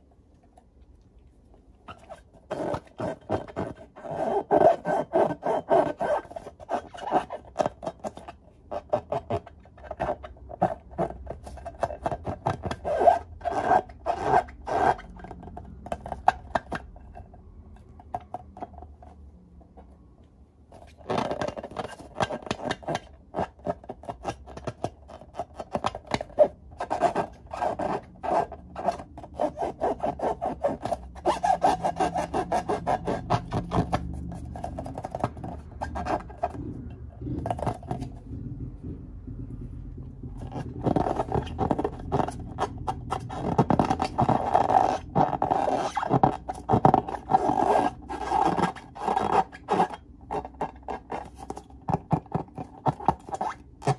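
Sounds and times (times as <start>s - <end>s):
fingers rubbing squeaky balloons: 1.8s - 17.3s, 20.7s - 38.5s, 40.2s - 53.9s.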